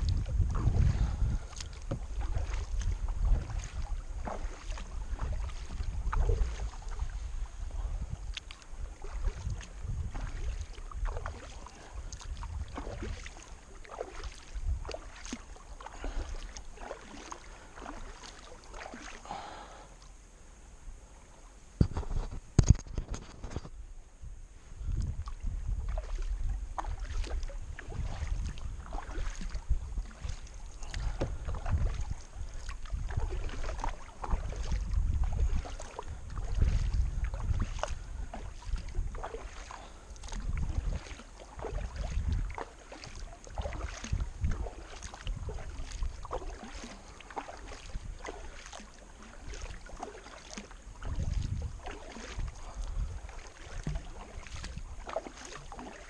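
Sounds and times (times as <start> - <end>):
wind buffeting microphone: 0.0 - 13.3, 13.9 - 15.1, 21.8 - 48.8, 50.9 - 55.8
paddle splashing in water: 0.0 - 20.1, 24.9 - 56.0.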